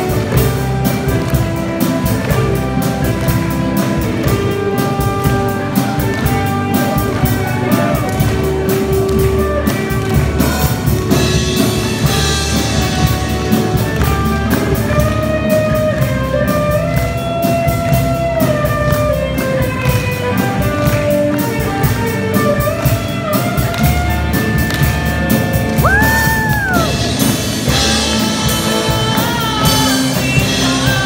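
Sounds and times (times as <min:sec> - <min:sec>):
bass guitar: 0:00.0 - 0:31.0
drum kit: 0:00.0 - 0:31.0
electric guitar lead: 0:00.0 - 0:31.0.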